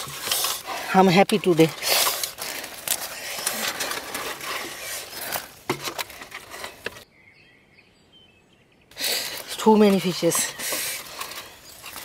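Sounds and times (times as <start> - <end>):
fish flapping against plastic and metal: 0.0 - 7.0, 9.1 - 12.0.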